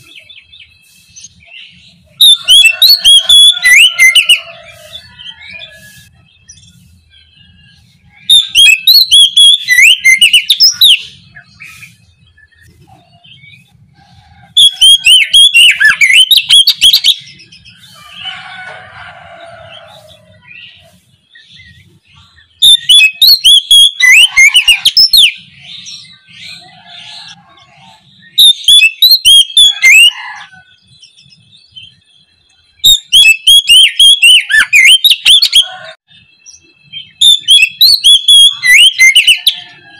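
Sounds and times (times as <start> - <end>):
bird singing whistles and chirps: 0.0 - 13.7, 14.6 - 18.5, 19.4 - 35.7, 36.4 - 39.9.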